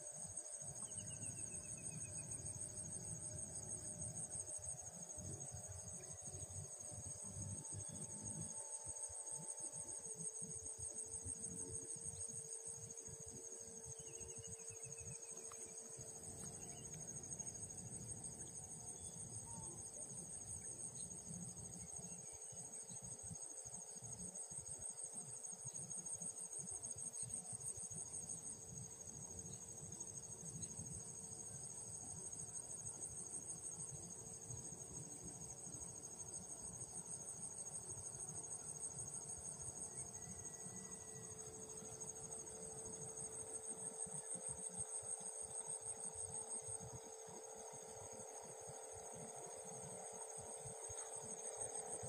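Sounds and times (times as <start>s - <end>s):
crickets chirping: 0.0s - 52.0s
faint steady hum: 0.0s - 52.0s.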